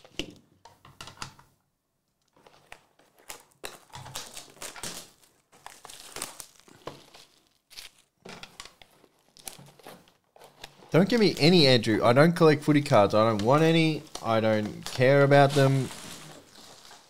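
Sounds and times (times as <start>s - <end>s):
plastic wrap crinkling: 2.2s - 17.0s.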